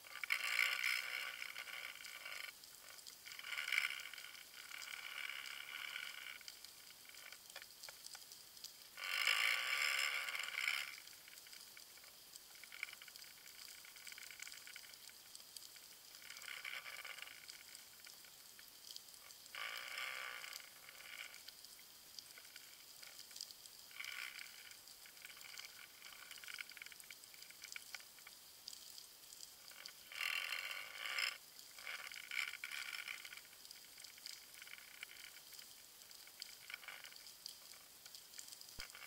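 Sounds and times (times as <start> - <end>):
underwater crackling and hiss: 0.0 - 39.0.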